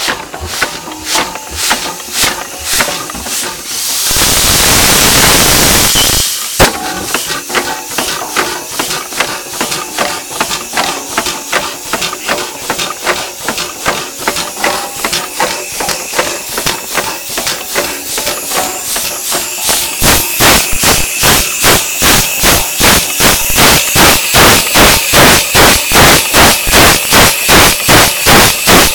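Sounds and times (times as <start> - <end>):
steam engine exhaust puffs: 0.0 - 28.9.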